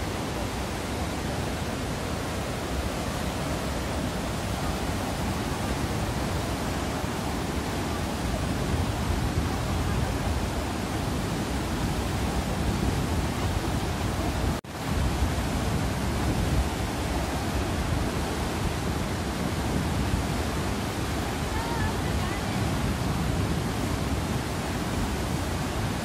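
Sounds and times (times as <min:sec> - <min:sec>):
whitewater rushing over rocks: 0:00.0 - 0:26.0.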